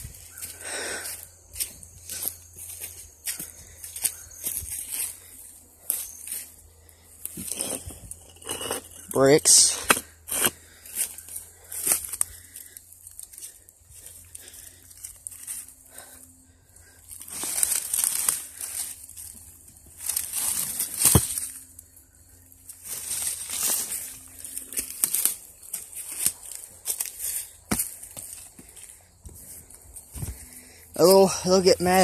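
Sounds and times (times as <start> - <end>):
dry leaves rustling and crunching: 0.0 - 6.6, 10.9 - 32.0.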